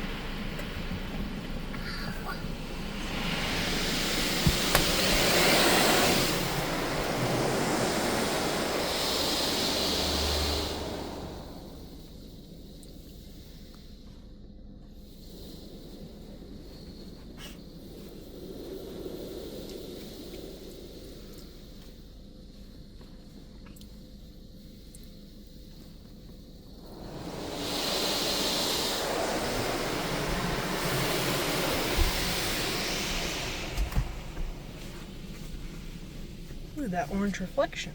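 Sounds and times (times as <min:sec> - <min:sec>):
water spray rushing hiss: 0:00.0 - 0:14.0, 0:15.0 - 0:22.8, 0:24.6 - 0:37.9.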